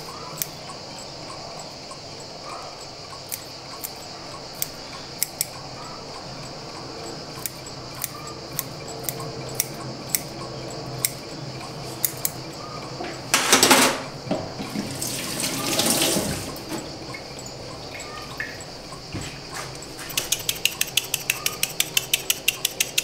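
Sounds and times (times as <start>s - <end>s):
alarm clock ticking: 0.0s - 14.3s, 15.3s - 23.0s.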